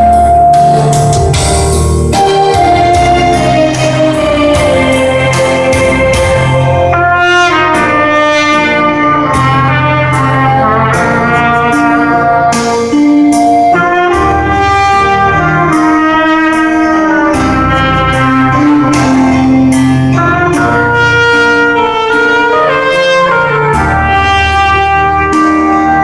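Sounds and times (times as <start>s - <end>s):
bass and drums accompaniment: 0.0s - 26.0s
trumpet melody: 0.0s - 26.0s.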